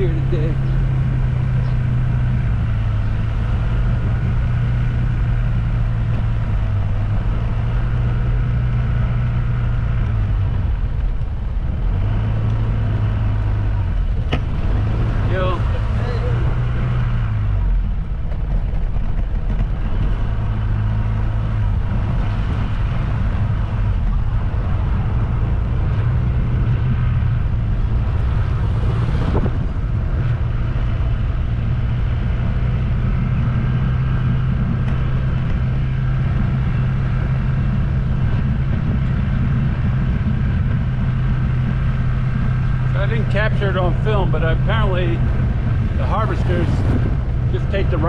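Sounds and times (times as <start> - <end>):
vehicle engine droning: 0.0 - 48.0.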